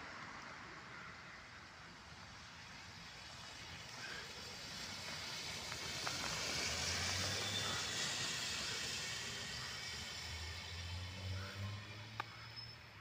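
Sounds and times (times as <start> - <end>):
bus engine passing: 0.0 - 13.0
tyres hissing on wet road: 0.0 - 13.0.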